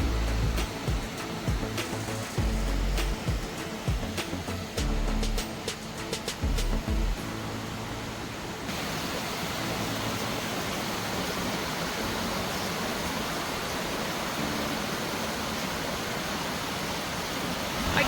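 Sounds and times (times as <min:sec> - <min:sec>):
waterfall cascading over rocks: 0:00.0 - 0:18.0.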